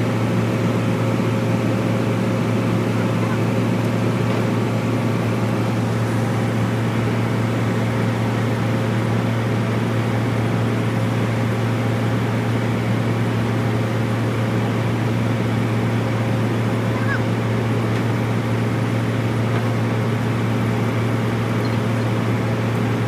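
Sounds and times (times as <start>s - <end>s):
bulldozer diesel engine droning: 0.0s - 23.0s.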